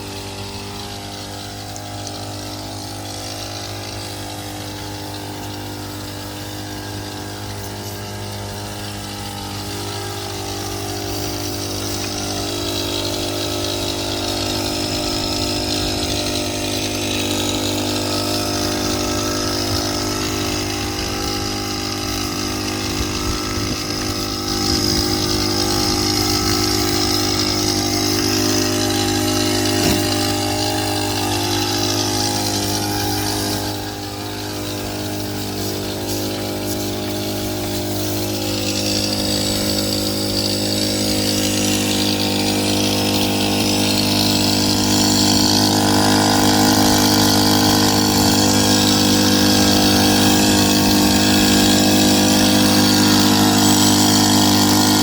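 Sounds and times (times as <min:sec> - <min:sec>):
machine motor humming: 0:00.0 - 0:55.0.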